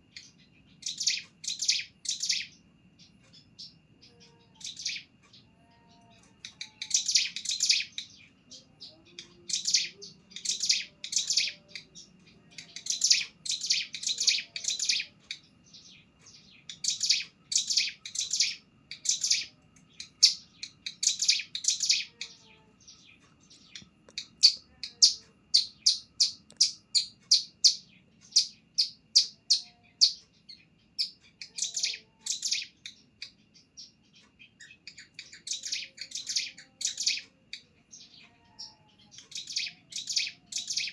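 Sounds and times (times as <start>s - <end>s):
small bird singing high chirps: 0.0s - 40.9s.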